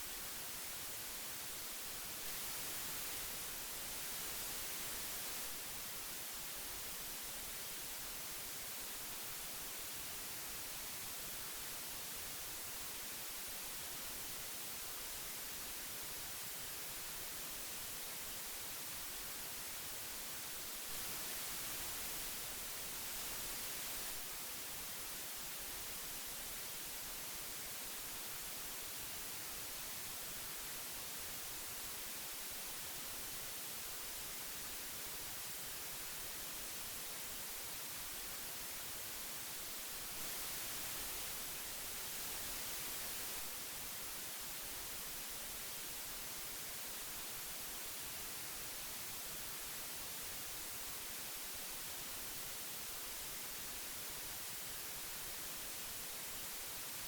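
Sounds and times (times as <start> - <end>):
tape hiss: 0.0 - 57.0.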